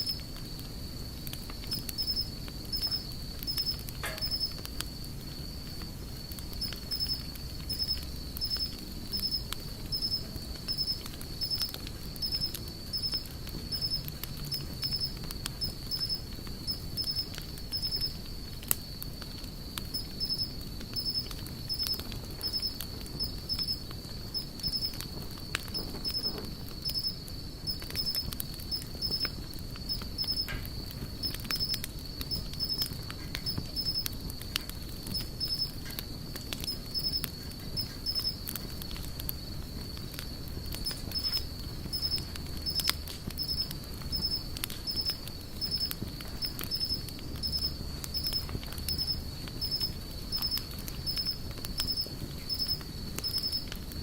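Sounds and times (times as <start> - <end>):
campfire crackling and popping: 0.0 - 54.0
insect trill: 0.0 - 54.0.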